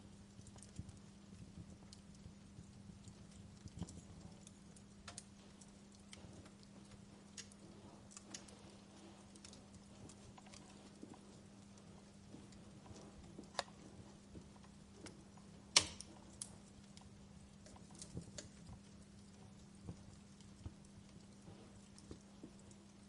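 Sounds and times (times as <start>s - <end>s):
faint low hum: 0.0s - 23.0s
wood fire crackling and popping: 0.0s - 23.0s.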